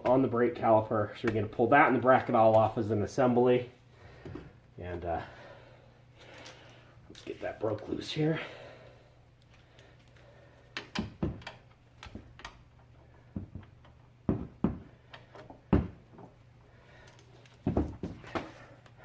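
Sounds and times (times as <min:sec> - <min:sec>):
faint steady low hum: 0:00.0 - 0:19.0.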